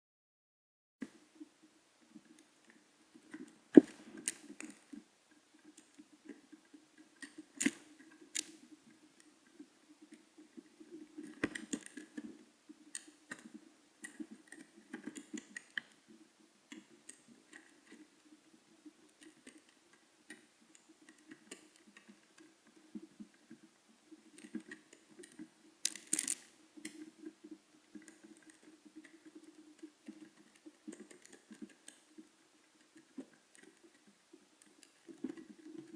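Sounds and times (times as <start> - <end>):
pigeons pecking and scuffling: 1.2 - 35.9.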